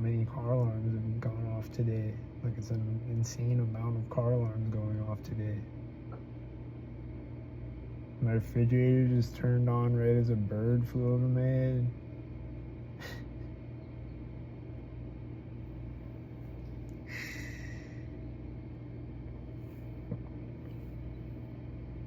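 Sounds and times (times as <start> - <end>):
refrigerator compressor humming: 0.0 - 22.0.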